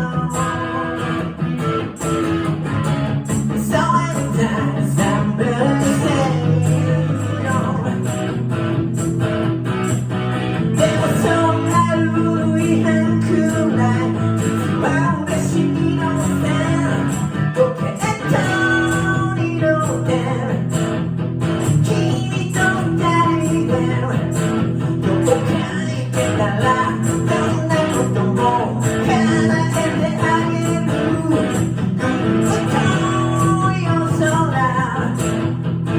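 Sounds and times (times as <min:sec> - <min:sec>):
person singing: 0:00.0 - 0:02.2, 0:03.3 - 0:08.4, 0:10.8 - 0:20.8, 0:21.6 - 0:35.4
guitar strumming: 0:00.0 - 0:35.9.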